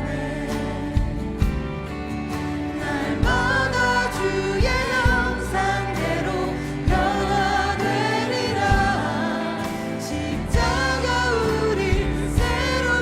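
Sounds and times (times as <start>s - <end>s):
people singing: 0.0s - 13.0s
band accompaniment: 0.5s - 13.0s.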